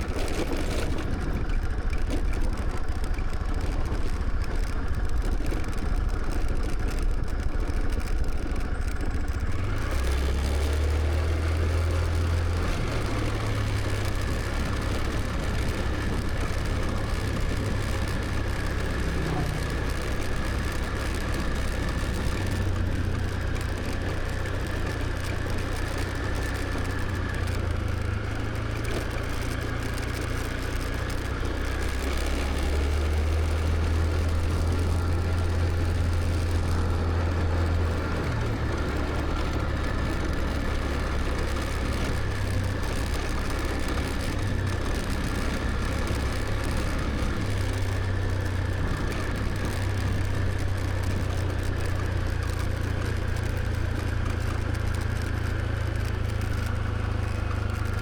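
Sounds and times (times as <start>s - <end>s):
road and wind noise: 0.0s - 58.0s
scooter engine running: 0.0s - 58.0s.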